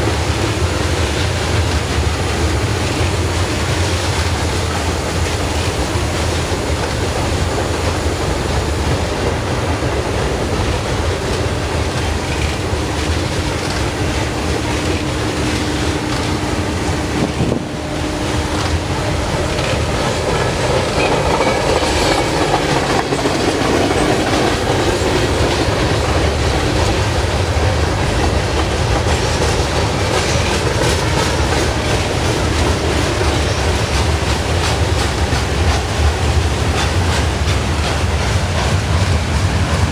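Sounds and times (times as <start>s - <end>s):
freight train rolling past: 0.0s - 39.9s
wheels clacking over rail joints: 0.0s - 39.9s.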